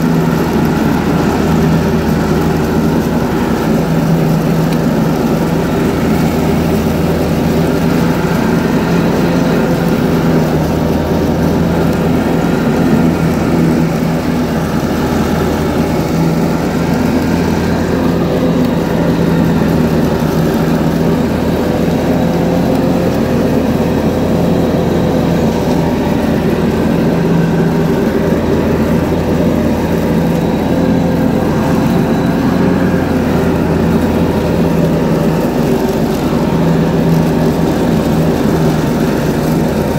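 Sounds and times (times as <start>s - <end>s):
garden tractor engine drone: 0.0s - 39.9s
mower deck cutting grass: 0.0s - 39.9s.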